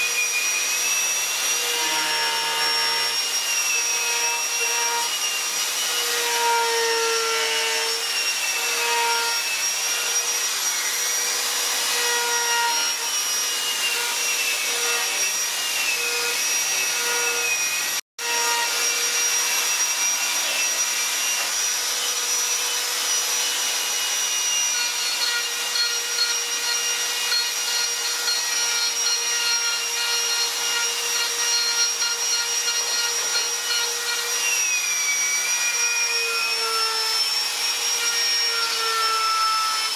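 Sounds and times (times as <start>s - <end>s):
rotary tool grinding wood: 0.0s - 39.9s.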